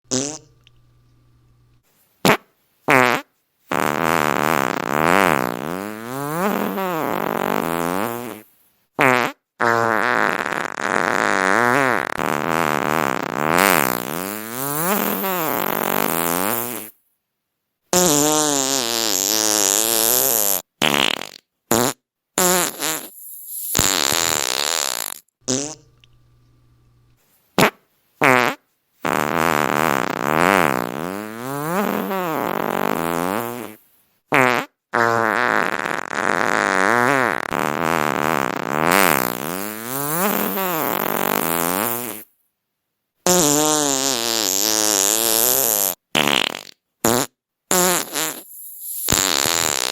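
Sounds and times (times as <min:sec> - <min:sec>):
fart sounds: 0:00.1 - 0:00.7, 0:02.2 - 0:17.0, 0:17.9 - 0:26.1, 0:27.6 - 0:42.3, 0:43.2 - 0:49.9.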